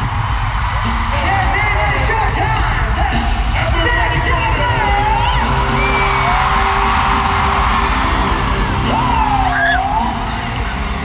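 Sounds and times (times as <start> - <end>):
fans yelling and screaming: 0.0 - 11.0
pop music through arena speakers: 0.0 - 11.0.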